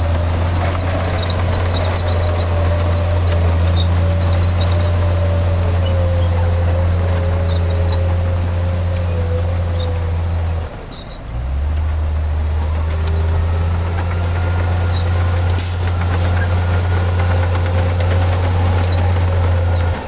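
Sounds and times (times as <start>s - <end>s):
heavy diesel engine humming: 0.0s - 20.0s.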